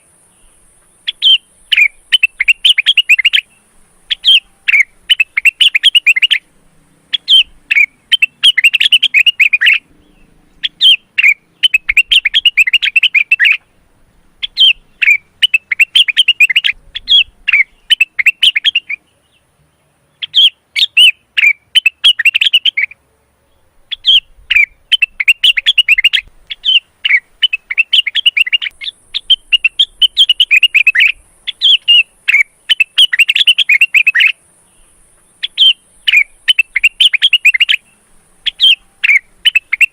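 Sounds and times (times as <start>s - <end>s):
bulbul singing sharp chirps: 0.0s - 13.8s, 14.4s - 19.5s, 20.1s - 23.0s, 23.9s - 39.9s.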